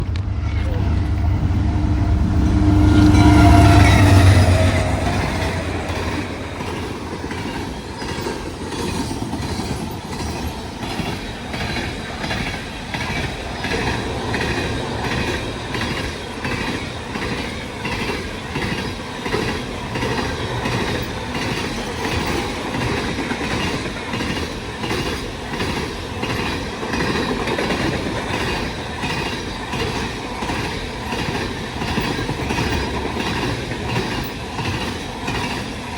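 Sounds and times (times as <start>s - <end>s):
freight train low rumble: 0.0s - 35.9s
wheels clacking over rail joints: 0.0s - 35.9s.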